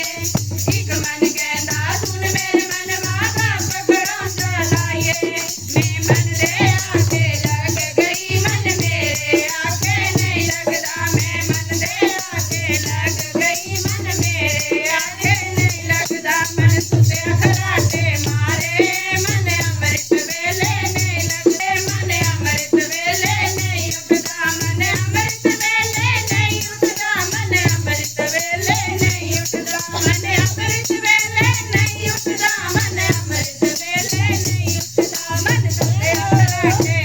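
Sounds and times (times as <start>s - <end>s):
shaker-like rattling percussion: 0.0s - 37.0s.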